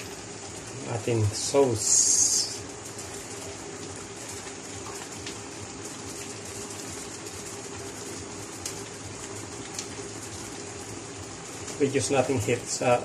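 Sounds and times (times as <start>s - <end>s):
sauce simmering hiss: 0.0s - 13.0s.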